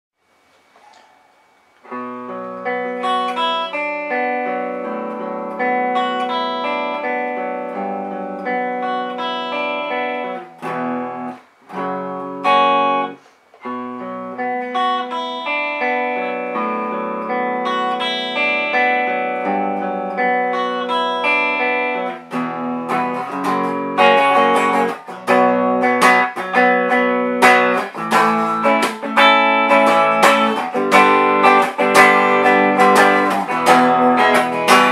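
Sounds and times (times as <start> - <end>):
electric guitar through tube amplifier: 1.8 - 34.9.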